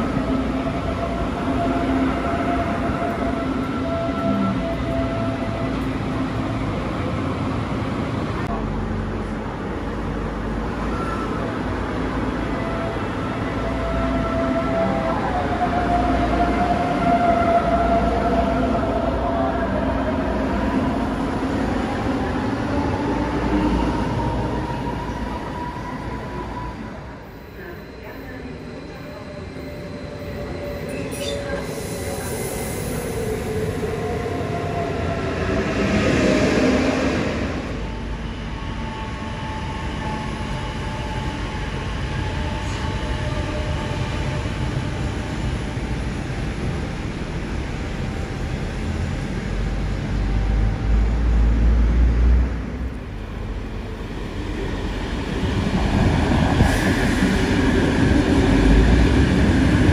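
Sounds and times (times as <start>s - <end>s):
train running by: 0.0s - 59.9s.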